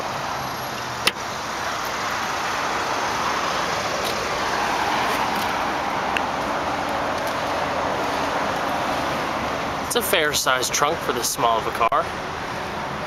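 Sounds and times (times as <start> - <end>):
road traffic hiss: 0.0 - 13.0.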